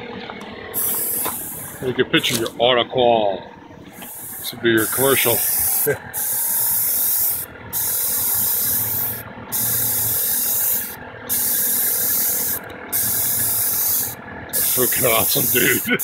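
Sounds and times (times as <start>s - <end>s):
spray gun hissing: 0.8s - 2.4s, 4.0s - 16.0s.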